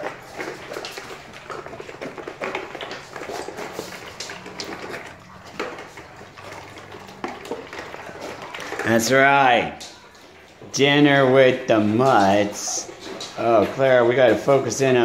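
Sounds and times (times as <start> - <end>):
dogs chewing and crunching food: 0.0 - 15.0.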